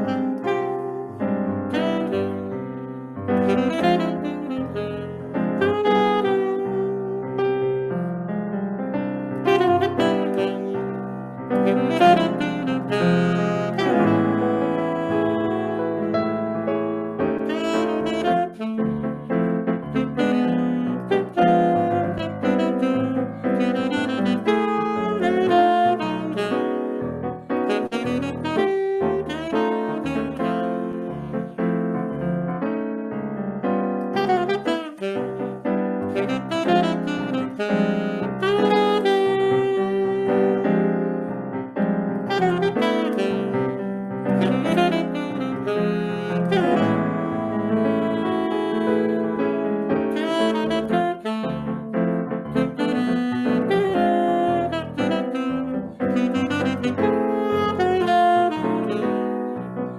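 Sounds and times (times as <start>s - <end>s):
saxophone melody: 0.0s - 32.7s, 33.4s - 59.9s
piano accompaniment: 0.0s - 59.9s.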